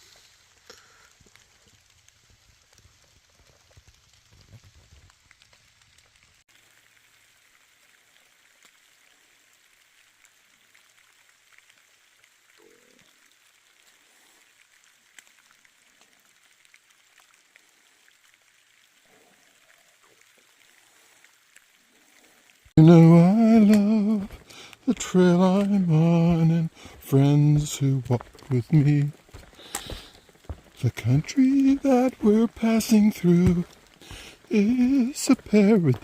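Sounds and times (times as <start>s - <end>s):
faint rain falling: 0.0s - 36.0s.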